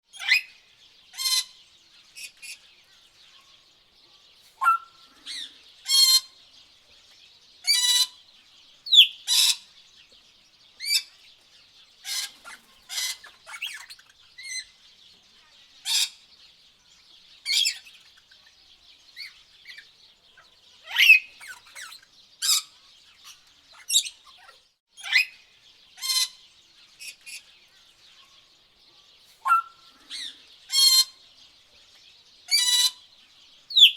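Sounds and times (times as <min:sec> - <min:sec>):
harsh tropical bird calls: 0:00.0 - 0:33.9
high bird chorus: 0:00.0 - 0:33.9.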